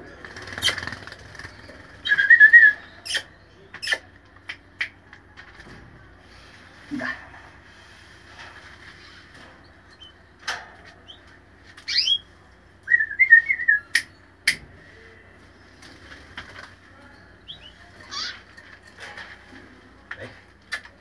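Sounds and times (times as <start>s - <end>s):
birds chirping: 0.0s - 5.1s, 8.7s - 20.9s.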